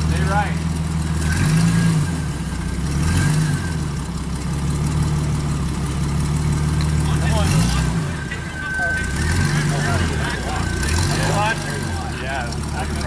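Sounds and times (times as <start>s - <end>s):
vehicle engine running at low revs: 0.0s - 13.0s.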